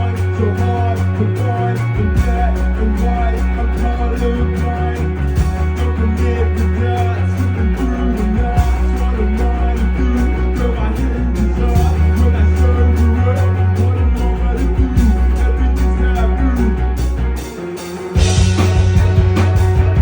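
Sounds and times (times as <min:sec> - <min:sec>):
drums steady beat: 0:00.0 - 0:20.0
electric guitar lines: 0:00.0 - 0:20.0
held bass notes: 0:00.0 - 0:20.0.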